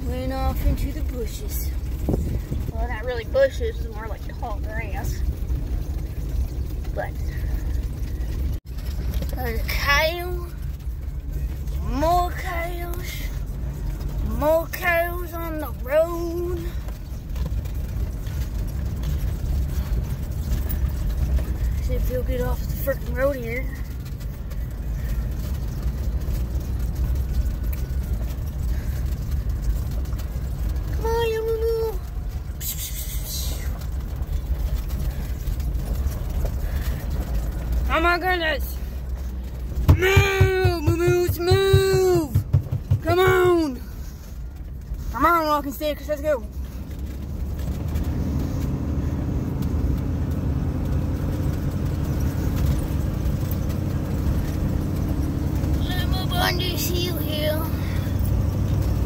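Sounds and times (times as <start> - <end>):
truck engine rumble inside cab: 0.0 - 59.0.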